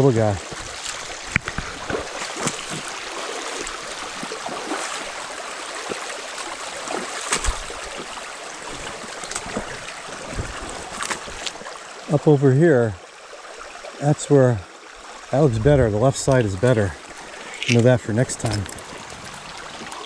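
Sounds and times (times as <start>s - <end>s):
creek flowing: 0.0s - 20.0s.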